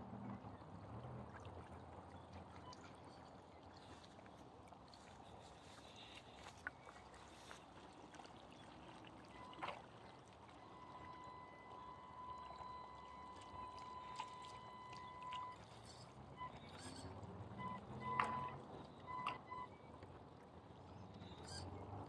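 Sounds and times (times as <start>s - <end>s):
water lapping in gravel shallows: 0.0s - 22.0s.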